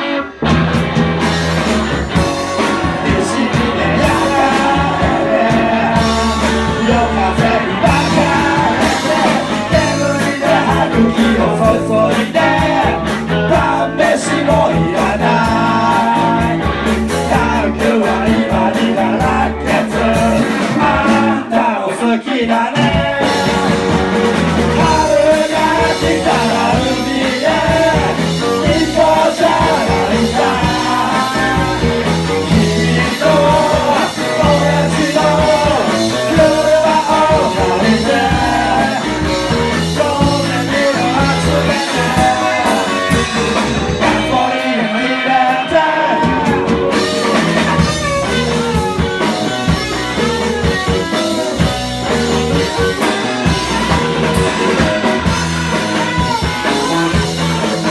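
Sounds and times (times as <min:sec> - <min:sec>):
bass guitar: 0:00.0 - 0:57.9
drums: 0:00.0 - 0:57.9
electric guitar: 0:00.0 - 0:57.9
person singing: 0:02.1 - 0:57.9.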